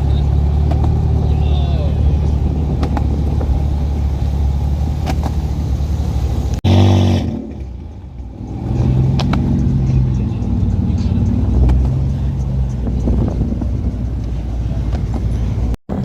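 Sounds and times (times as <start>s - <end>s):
car engine running: 0.0s - 16.0s
engine revving: 0.0s - 16.0s.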